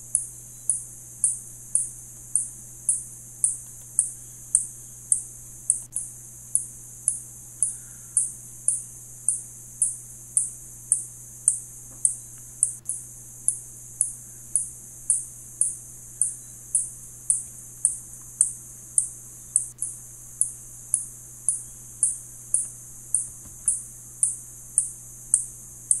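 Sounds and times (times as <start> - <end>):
bat echolocation chirps: 0.1 - 26.0.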